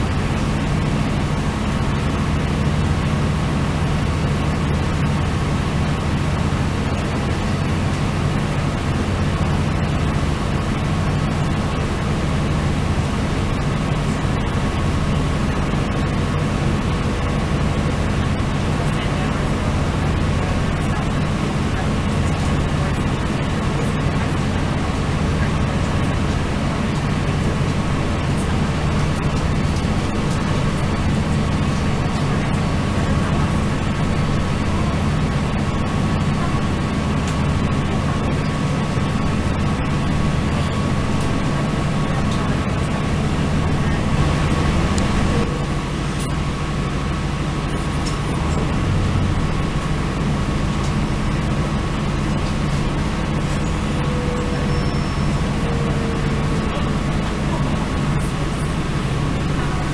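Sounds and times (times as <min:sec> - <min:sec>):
diesel train engine hum: 0:00.0 - 0:59.9
thin steady whine: 0:00.0 - 0:59.9.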